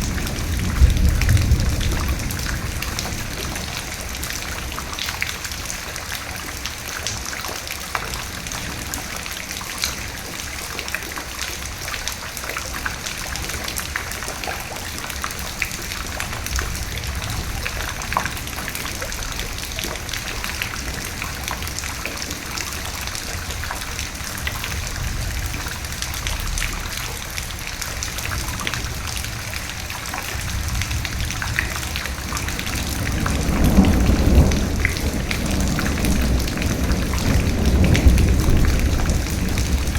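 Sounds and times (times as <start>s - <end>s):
low thunder rumbles: 0.0s - 5.9s, 12.8s - 39.9s
rain drops ticking on a surface: 0.0s - 39.9s.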